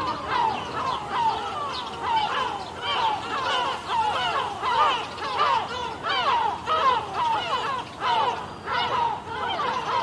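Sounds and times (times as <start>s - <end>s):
seagulls calling: 0.0s - 10.0s.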